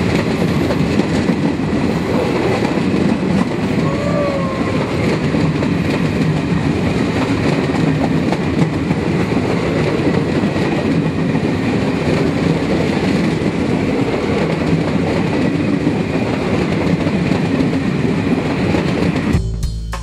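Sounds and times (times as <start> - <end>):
train running on rails: 0.0 - 19.4.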